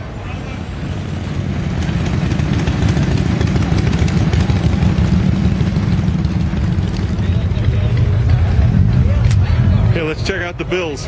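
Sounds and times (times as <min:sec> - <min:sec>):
loud engine running: 0:00.0 - 0:11.0.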